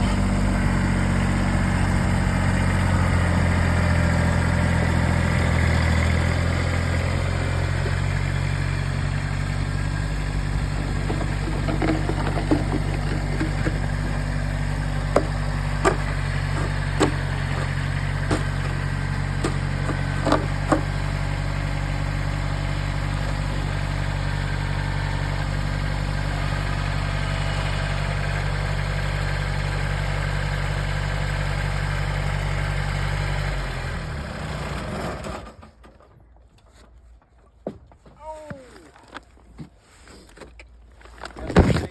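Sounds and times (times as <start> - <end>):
tractor diesel engine idling: 0.0 - 34.8.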